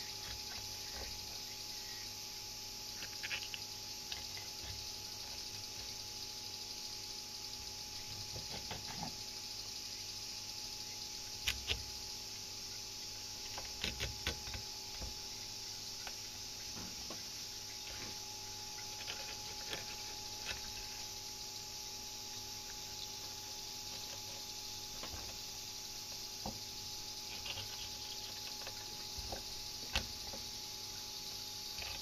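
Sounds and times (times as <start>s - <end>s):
faint hum: 0.0s - 32.0s
steady hiss: 0.0s - 32.0s.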